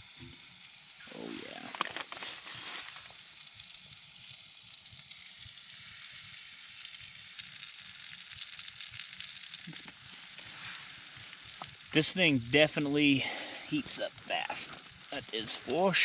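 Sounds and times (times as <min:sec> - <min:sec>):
steaks sizzling: 0:00.0 - 0:16.0.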